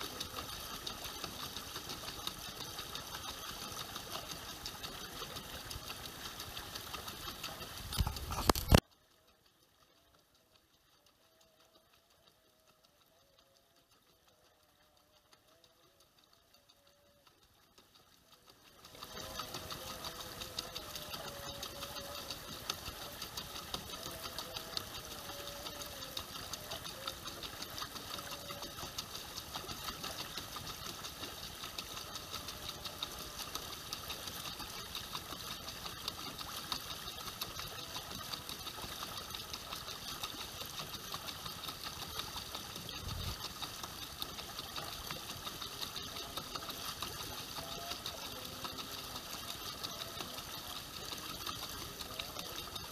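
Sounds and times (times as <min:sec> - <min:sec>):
small boat motor running: 0:00.0 - 0:52.9.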